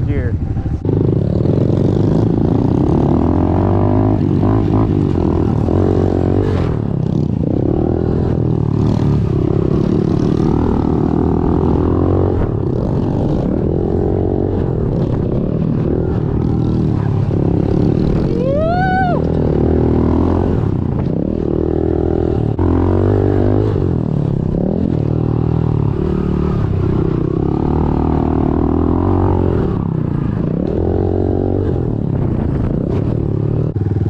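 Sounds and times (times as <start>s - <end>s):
motorcycle engine running hard: 0.0s - 34.0s.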